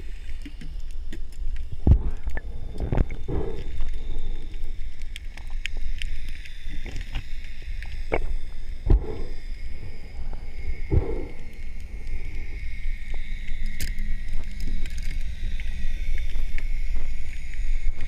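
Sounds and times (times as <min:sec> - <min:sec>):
underwater rumble of moving water: 0:00.0 - 0:18.0.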